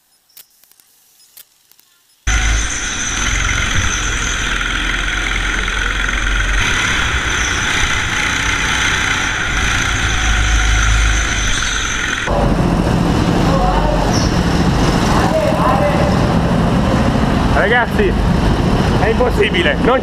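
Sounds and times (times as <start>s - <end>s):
go-kart engine droning and whining: 2.3s - 20.0s.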